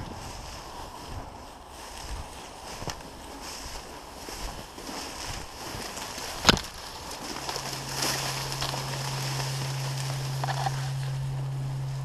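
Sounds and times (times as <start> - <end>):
dry reeds rustling: 0.0 - 12.0
steady low hum: 0.0 - 12.0.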